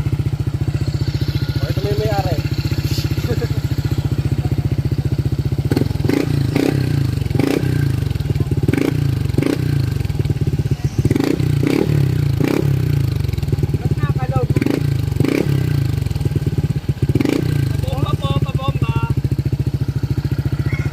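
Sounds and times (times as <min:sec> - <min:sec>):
scooter engine revving: 0:00.0 - 0:20.9.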